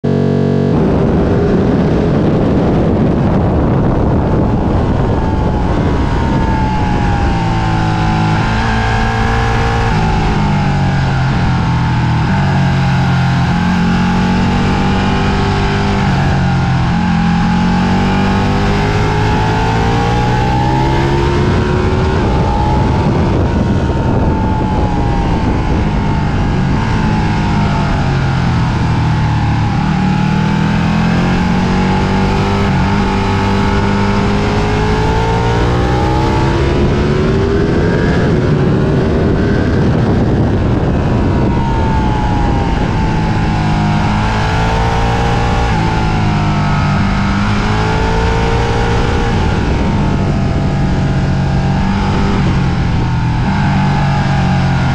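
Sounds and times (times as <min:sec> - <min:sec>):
motorcycle engine running hard: 0:00.0 - 0:54.9
wind rush: 0:00.0 - 0:54.9.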